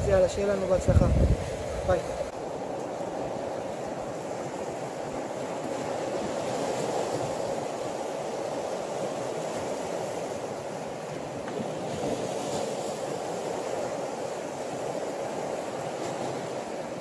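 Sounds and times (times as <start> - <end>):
surf washing over rocky shore: 0.0 - 17.0.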